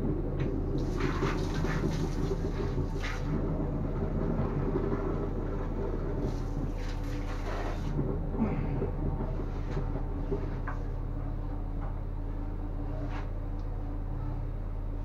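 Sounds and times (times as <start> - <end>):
drain jetter mechanical drone: 0.0 - 15.0.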